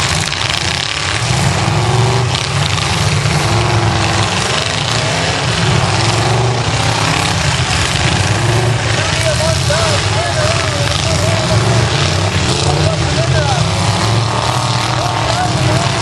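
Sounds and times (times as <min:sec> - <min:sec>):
car engines revving: 0:00.0 - 0:16.0
cars ramming each other: 0:00.0 - 0:16.0.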